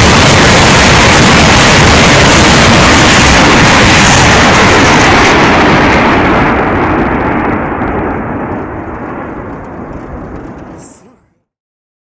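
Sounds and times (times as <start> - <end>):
rockets launching roar: 0.0 - 11.4.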